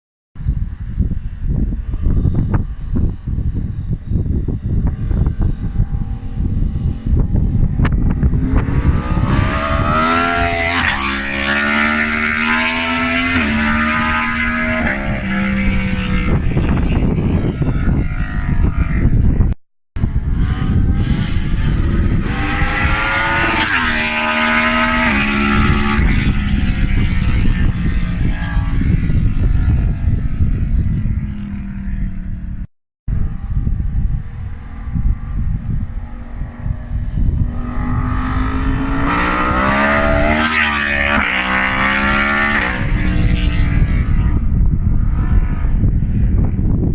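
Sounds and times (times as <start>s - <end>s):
motorcycle accelerating past: 1.6s - 46.9s.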